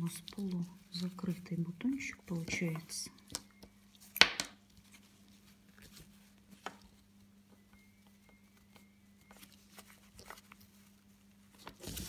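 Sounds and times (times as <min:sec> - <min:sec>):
low steady hum: 0:00.0 - 0:12.0
ribbon rustling: 0:00.0 - 0:12.0.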